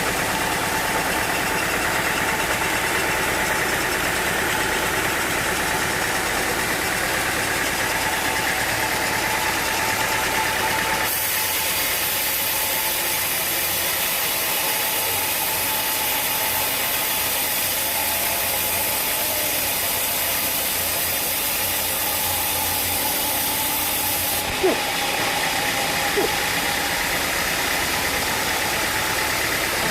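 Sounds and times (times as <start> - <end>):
sawmill machinery droning: 0.0 - 29.9.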